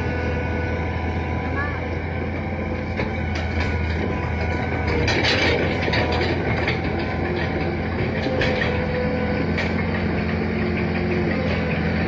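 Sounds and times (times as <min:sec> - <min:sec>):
diesel engine running: 0:00.0 - 0:12.0
track chains clanking: 0:00.0 - 0:12.0.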